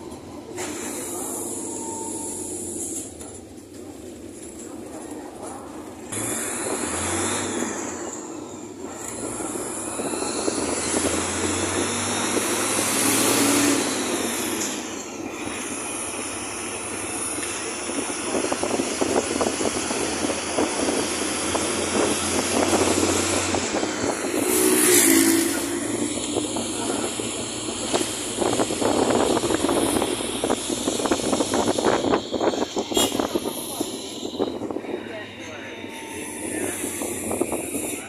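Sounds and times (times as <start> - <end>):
bus engine hum: 0.0 - 38.0
road noise: 0.0 - 38.0.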